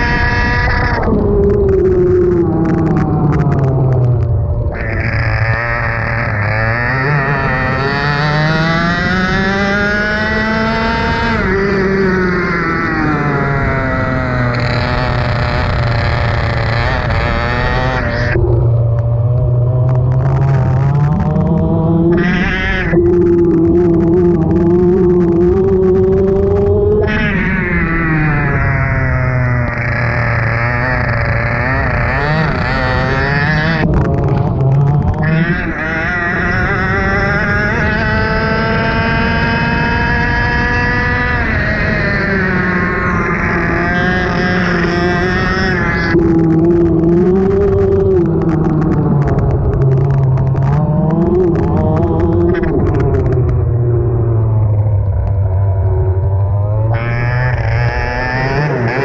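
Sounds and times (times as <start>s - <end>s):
kart engine revving down: 0.0s - 59.0s.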